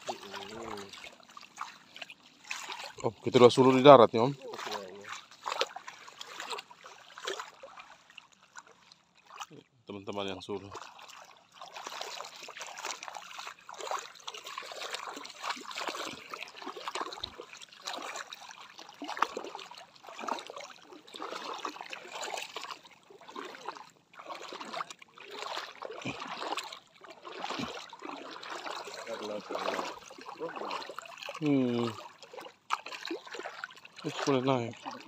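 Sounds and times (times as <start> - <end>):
shallow seawater sloshing: 0.0 - 9.5, 10.6 - 35.0.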